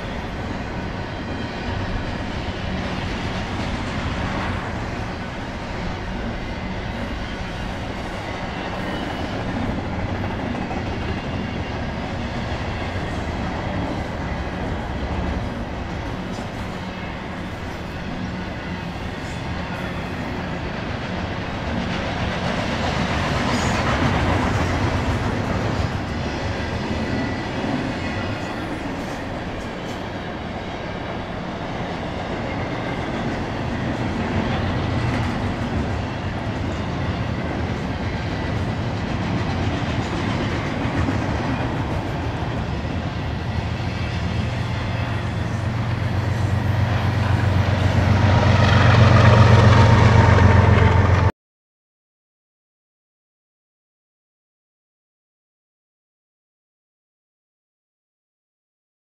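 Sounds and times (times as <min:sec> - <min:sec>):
freight train rolling past: 0:00.0 - 0:51.3.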